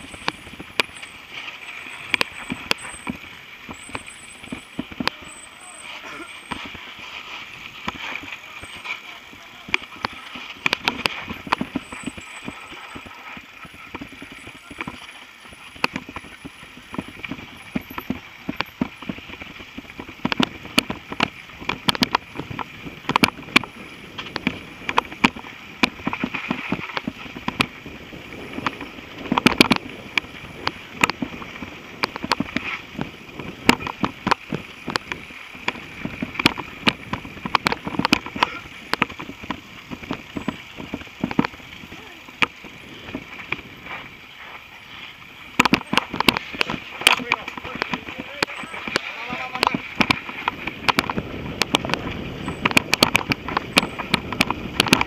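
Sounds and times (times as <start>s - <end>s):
mountain bike rattling: 0.0s - 55.0s.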